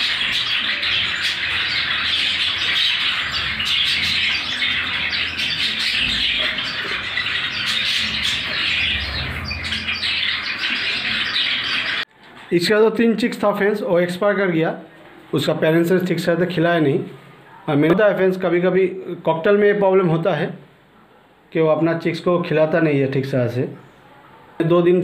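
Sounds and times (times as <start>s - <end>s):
caged birds chattering and squawking: 0.0s - 25.0s.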